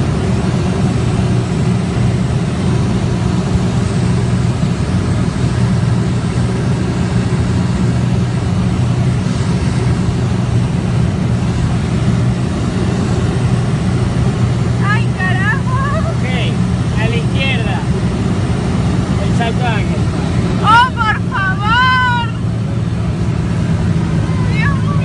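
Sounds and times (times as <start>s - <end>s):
airplane engine and propeller drone: 0.0s - 25.0s.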